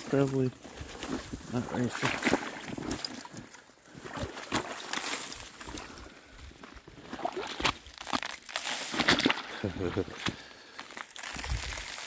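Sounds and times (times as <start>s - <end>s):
footsteps splashing through slush: 0.0s - 12.0s.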